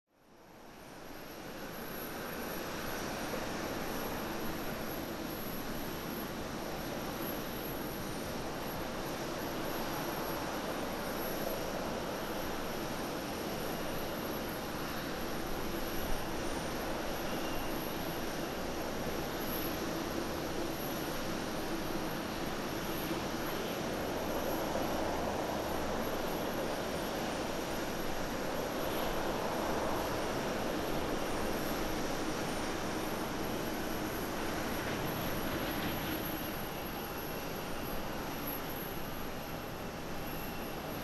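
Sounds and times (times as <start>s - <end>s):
jet engines steady rushing drone: 0.2s - 41.0s.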